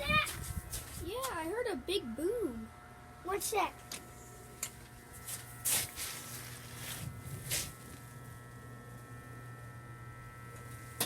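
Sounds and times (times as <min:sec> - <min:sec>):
electrical buzzing hum: 0:00.0 - 0:11.0.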